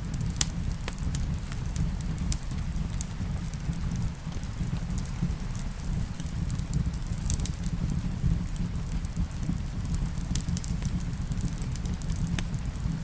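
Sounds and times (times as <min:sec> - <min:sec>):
rain rushing: 0:00.0 - 0:13.0
wood fire crackling: 0:00.0 - 0:13.0.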